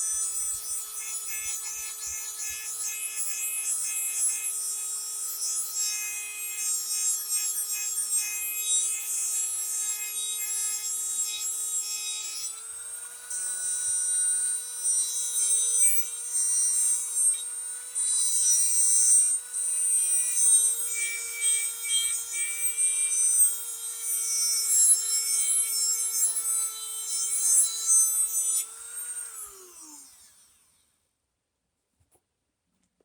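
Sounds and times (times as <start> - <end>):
grinding steel blade: 0.0 - 30.4
rotary tool whine: 0.0 - 30.8.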